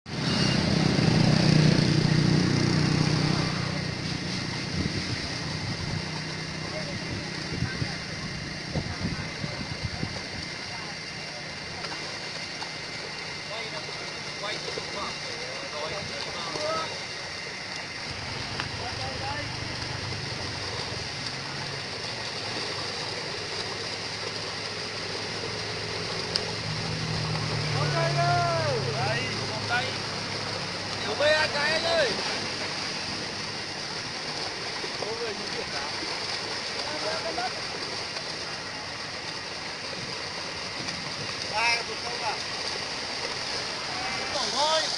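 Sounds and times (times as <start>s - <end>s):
small engine droning: 0.1s - 9.8s, 10.6s - 41.1s
fish thrashing in water: 0.1s - 44.9s.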